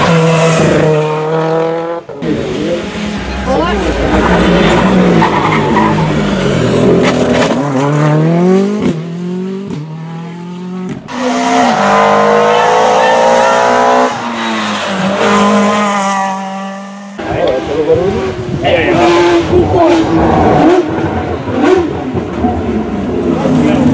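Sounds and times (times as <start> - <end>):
rally car engine upshifting: 0.0 - 23.9
second rally car engine: 0.0 - 23.9.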